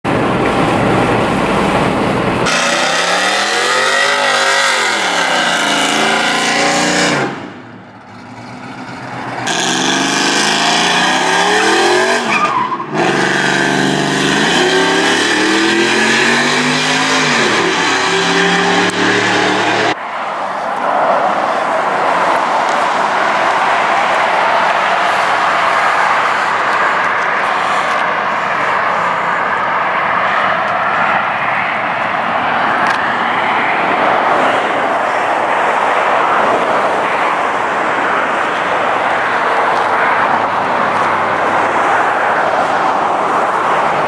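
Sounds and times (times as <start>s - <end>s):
car engines revving: 0.1s - 44.0s.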